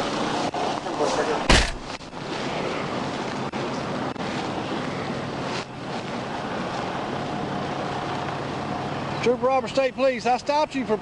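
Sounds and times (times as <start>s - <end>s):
passing highway traffic: 0.0s - 11.0s.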